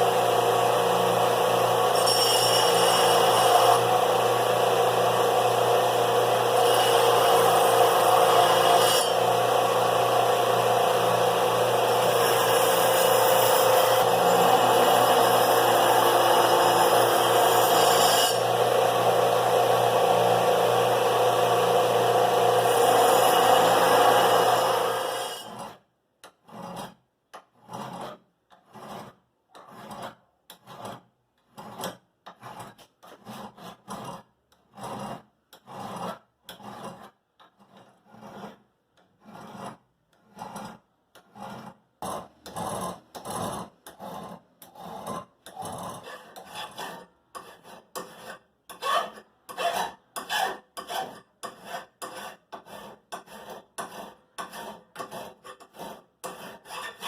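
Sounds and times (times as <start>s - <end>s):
hand file rasping on steel blade: 1.9s - 4.0s, 6.5s - 9.3s, 11.0s - 18.6s, 22.6s - 57.0s.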